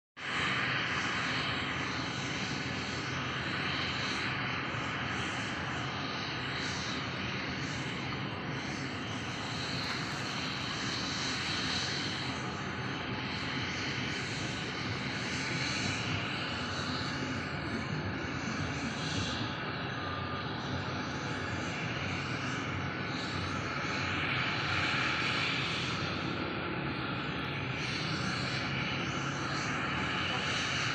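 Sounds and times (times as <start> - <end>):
helicopter engine and rotor: 0.2 - 30.9.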